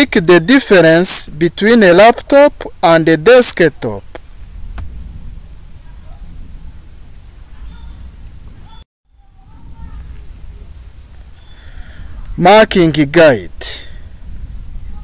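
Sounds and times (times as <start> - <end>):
cricket chirping: 0.1 - 15.0.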